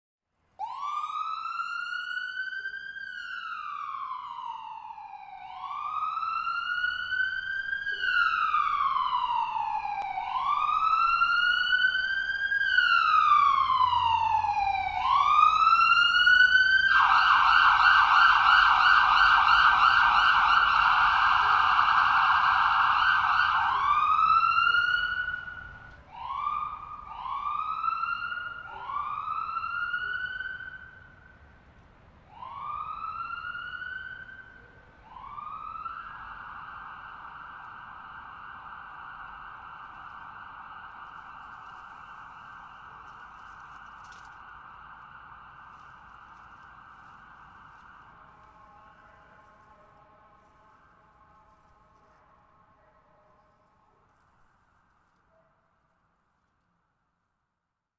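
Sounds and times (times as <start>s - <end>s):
siren fast yelp: 0.6s - 31.0s, 32.3s - 49.7s
ambulance siren wailing: 0.6s - 54.3s.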